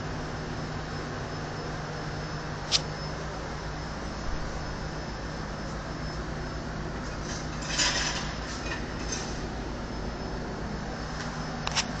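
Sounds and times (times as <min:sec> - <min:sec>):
refrigeration machinery hum: 0:00.0 - 0:12.0.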